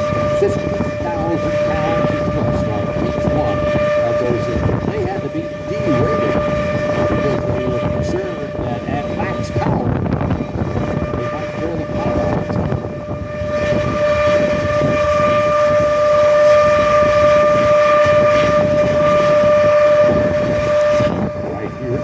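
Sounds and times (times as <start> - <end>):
jet engines whining and rumbling: 0.0 - 22.0.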